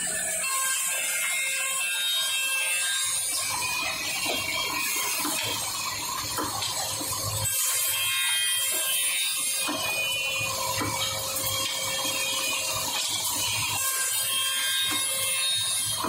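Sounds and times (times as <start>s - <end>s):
woodworking machine high whine: 0.0s - 16.0s.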